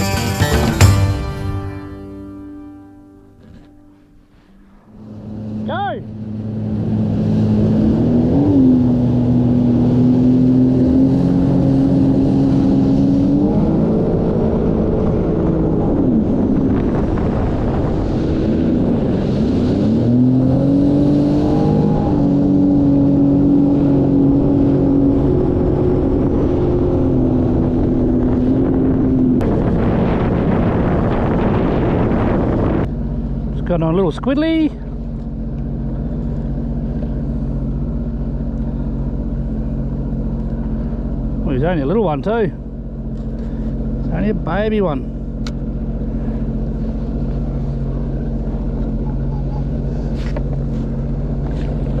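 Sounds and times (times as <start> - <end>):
jet ski engine running: 0.0 - 52.0.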